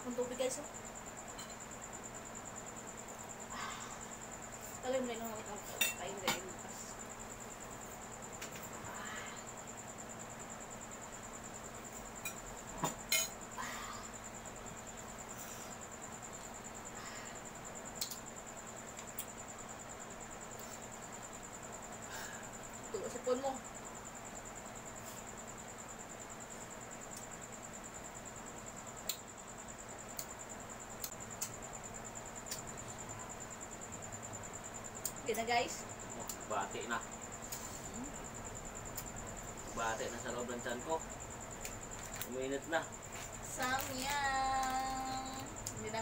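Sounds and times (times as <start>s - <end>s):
cricket trilling: 0.0s - 46.0s.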